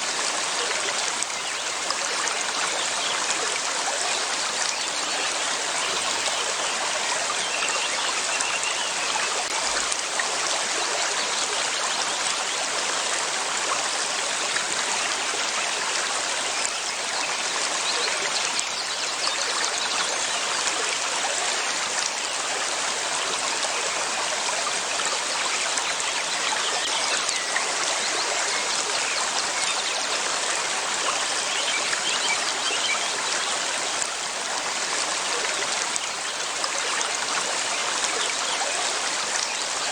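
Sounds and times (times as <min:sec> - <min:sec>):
river water rushing and trickling: 0:00.0 - 0:39.9.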